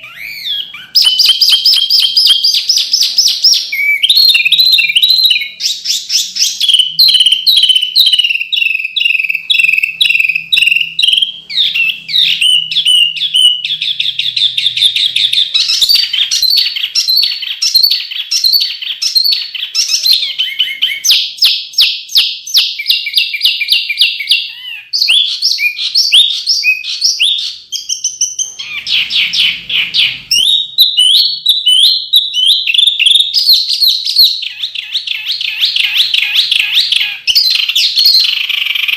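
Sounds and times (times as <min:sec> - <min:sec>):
songbird trilling and chirping: 0:00.0 - 0:38.9.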